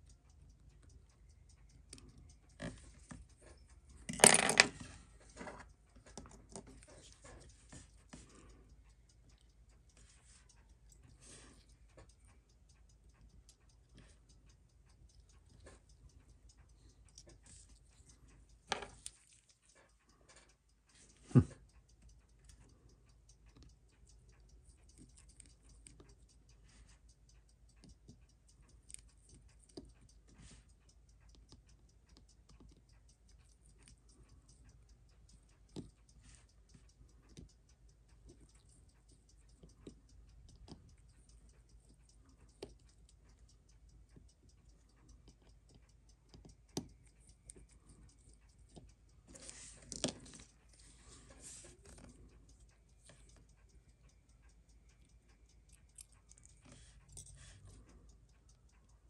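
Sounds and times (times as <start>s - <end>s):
fast faint watch ticking: 0.0s - 59.0s
metal tools tapping watch movement: 0.0s - 59.0s.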